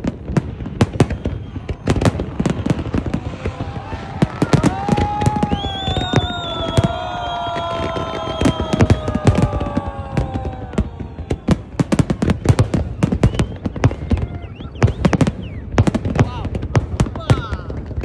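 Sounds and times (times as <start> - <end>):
falling firework whistle: 0.6 - 16.0.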